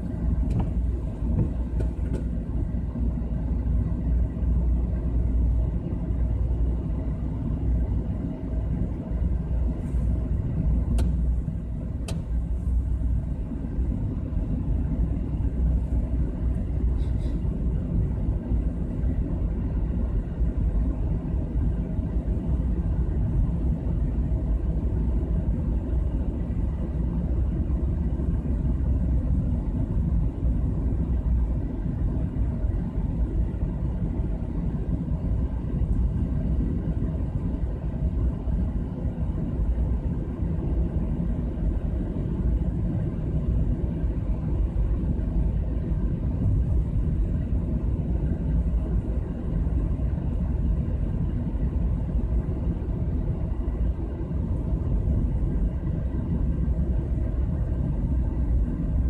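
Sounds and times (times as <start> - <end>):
low rumble of tyres and engine: 0.0 - 59.0.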